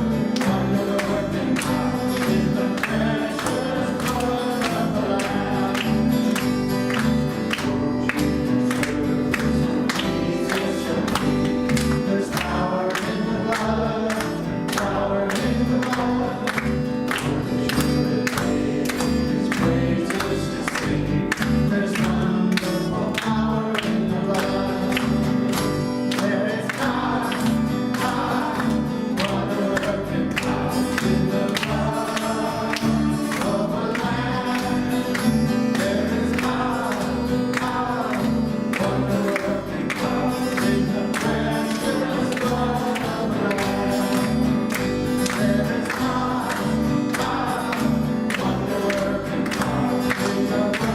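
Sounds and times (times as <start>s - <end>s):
group singing gospel song: 0.0s - 50.9s.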